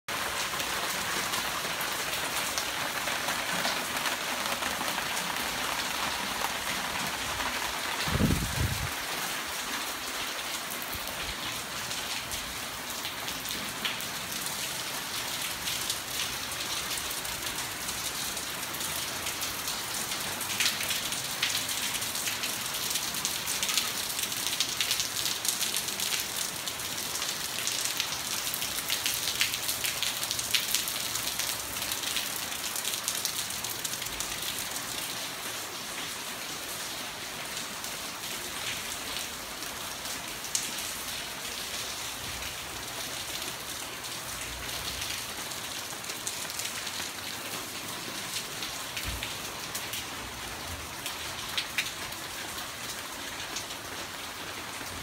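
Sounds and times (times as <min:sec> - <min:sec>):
rain on foliage and paving: 0:00.0 - 0:55.0.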